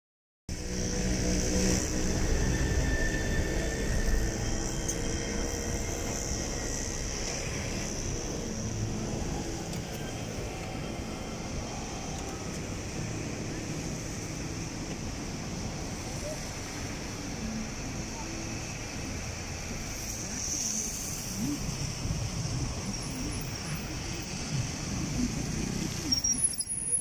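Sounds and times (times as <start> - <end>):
steady outdoor rush: 0.5 - 27.0.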